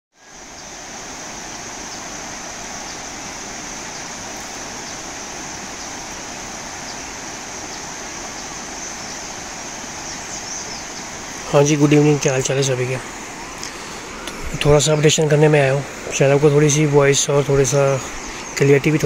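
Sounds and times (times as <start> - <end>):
even rushing hiss: 0.2 - 19.0.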